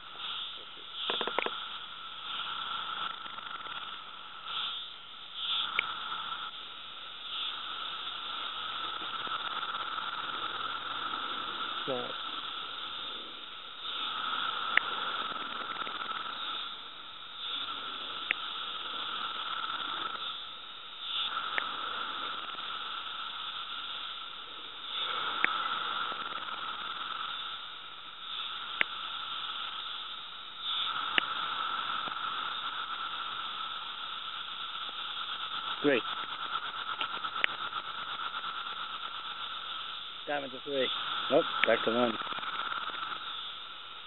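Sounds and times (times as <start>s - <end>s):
chorus of cicadas: 0.0s - 44.0s
cicada buzzing close: 0.0s - 44.0s.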